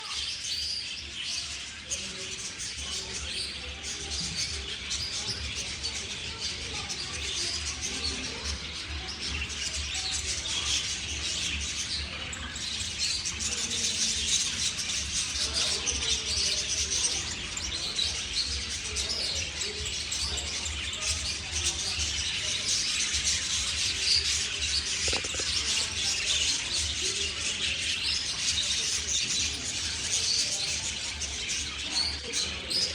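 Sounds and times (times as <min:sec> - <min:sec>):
parrots chirping and chattering: 0:00.0 - 0:32.9.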